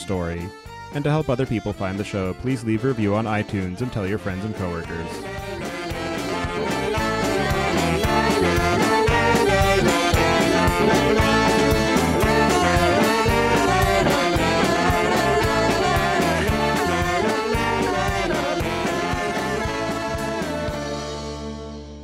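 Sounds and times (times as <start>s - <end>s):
theme music with steady beat: 0.0s - 21.9s.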